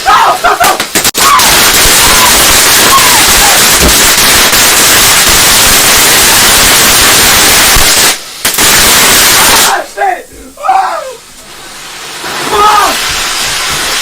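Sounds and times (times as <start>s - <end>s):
firework spraying hiss: 0.0s - 14.0s.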